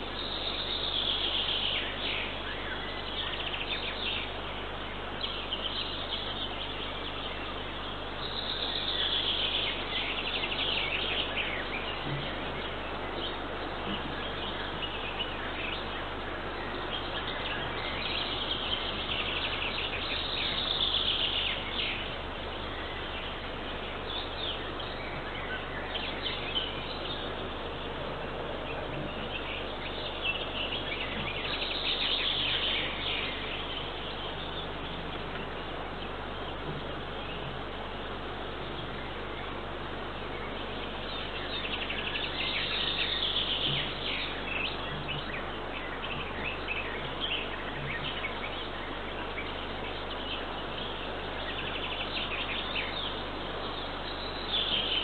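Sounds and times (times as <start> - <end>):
background hiss: 0.0 - 55.0
small birds singing: 0.0 - 55.0.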